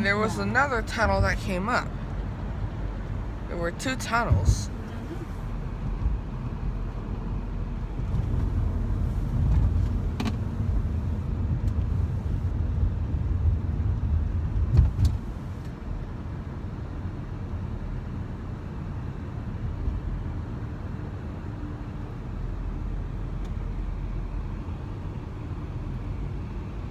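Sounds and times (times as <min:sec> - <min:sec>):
car interior road rumble: 0:00.0 - 0:26.9.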